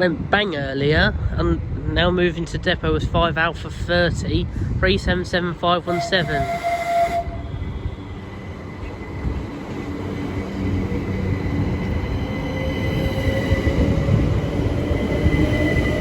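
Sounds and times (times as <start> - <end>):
rail rumble: 0.0 - 16.0.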